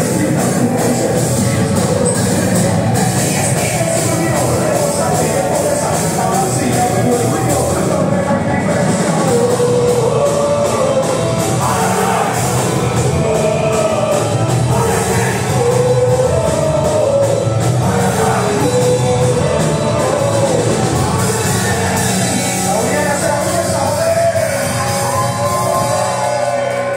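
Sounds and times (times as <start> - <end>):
drums driving a fast beat: 0.0 - 26.9
electric guitars: 0.0 - 26.9
person singing: 0.0 - 26.9.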